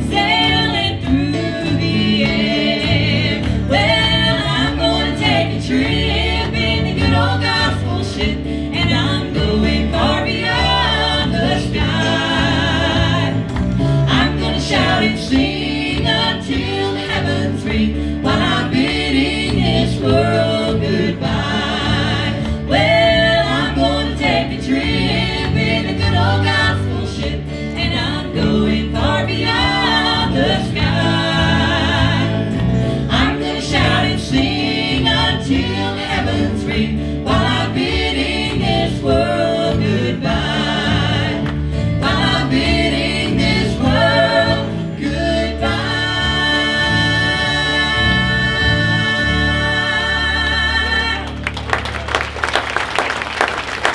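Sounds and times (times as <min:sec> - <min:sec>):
people singing together: 0:00.0 - 0:51.5
guitars and keyboard: 0:00.0 - 0:52.2.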